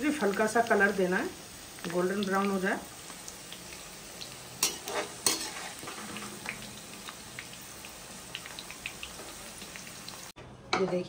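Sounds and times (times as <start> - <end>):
food sizzling in hot oil: 0.0 - 10.4.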